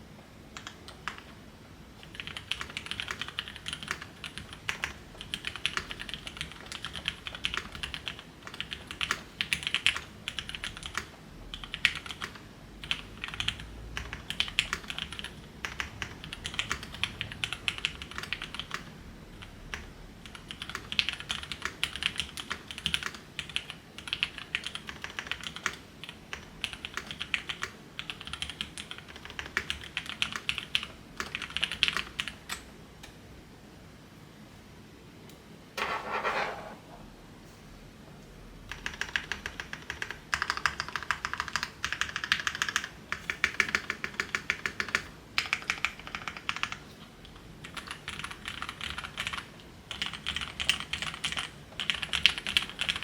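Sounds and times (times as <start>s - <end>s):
mechanical keyboard typing: 0.6s - 1.3s, 2.0s - 32.6s, 38.7s - 53.0s.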